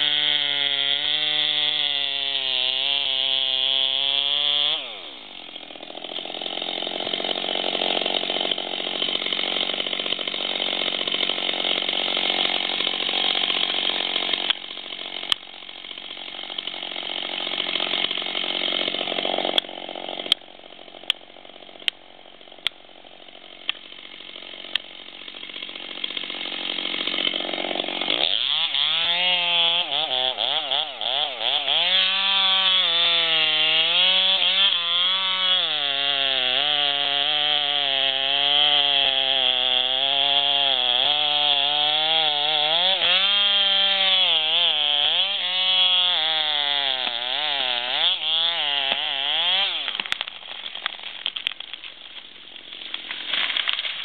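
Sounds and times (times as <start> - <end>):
chainsaw cutting at high revs: 0.0 - 54.0.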